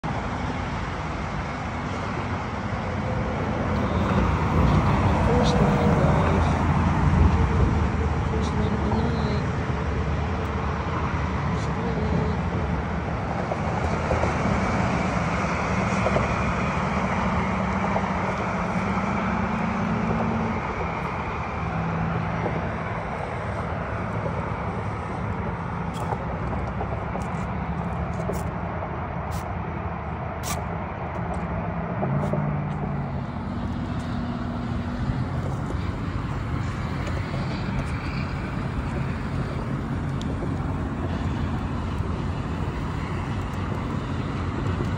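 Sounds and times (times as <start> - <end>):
road traffic rumble: 0.0 - 44.9.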